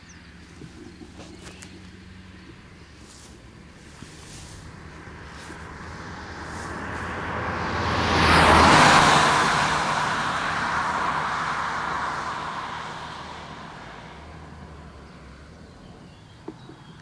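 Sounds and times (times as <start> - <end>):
car driving past at speed: 0.1 - 16.4.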